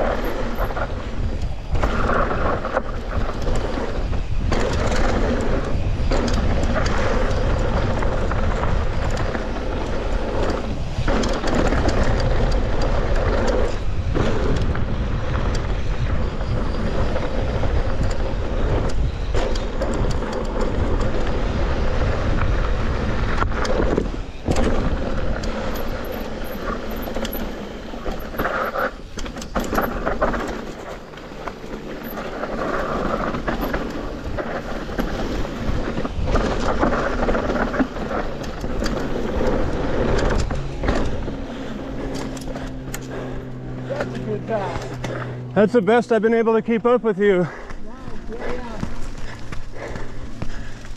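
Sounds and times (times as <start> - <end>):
bike rattling over bumps: 0.0 - 50.9
bike tyres crunching on dirt: 0.0 - 50.9
wind buffeting microphone: 0.0 - 50.9.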